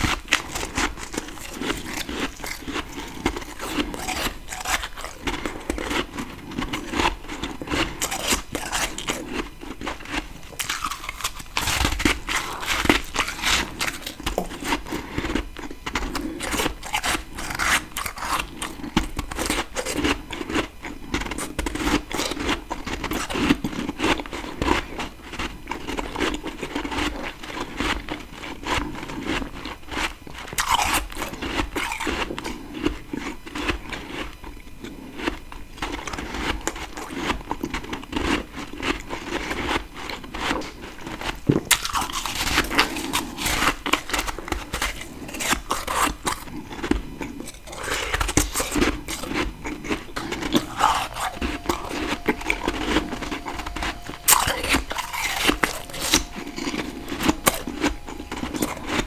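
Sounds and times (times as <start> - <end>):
chewing crunchy frost: 0.0 - 59.0.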